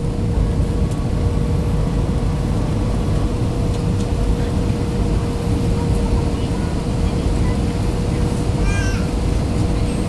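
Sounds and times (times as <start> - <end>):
rush of engines and airflow: 0.0 - 10.0.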